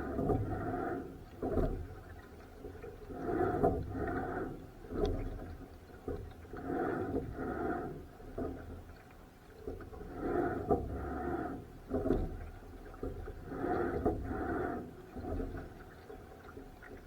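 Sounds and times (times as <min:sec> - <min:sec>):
oars rowing a boat: 0:00.0 - 0:17.0.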